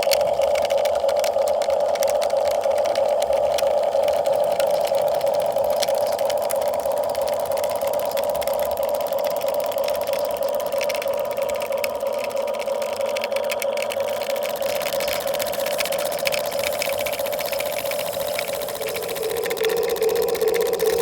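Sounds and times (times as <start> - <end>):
small electric motor buzzing: 0.0 - 21.0.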